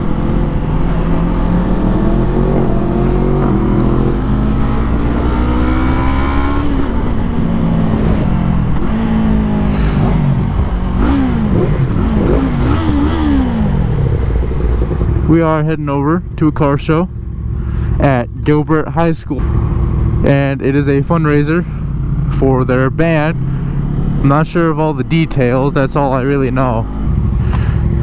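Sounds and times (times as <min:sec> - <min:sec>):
motorcycle engine accelerating: 0:00.0 - 0:18.6, 0:19.3 - 0:28.0
steady low rumble: 0:00.0 - 0:28.0.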